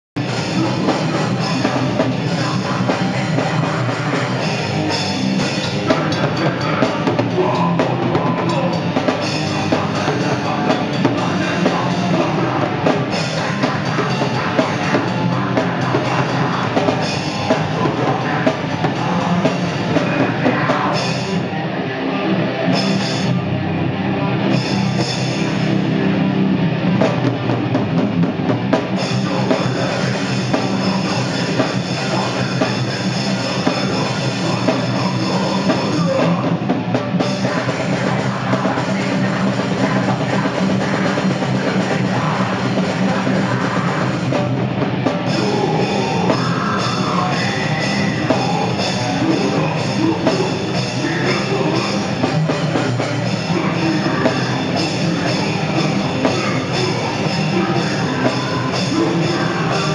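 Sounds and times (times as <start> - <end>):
heavy metal band playing live: 0.2 - 59.9.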